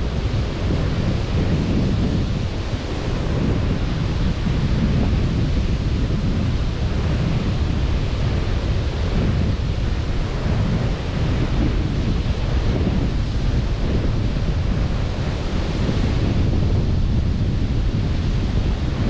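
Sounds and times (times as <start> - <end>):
sea surf washing on beach: 0.0 - 19.0
wind rumbling on microphone: 0.0 - 19.0.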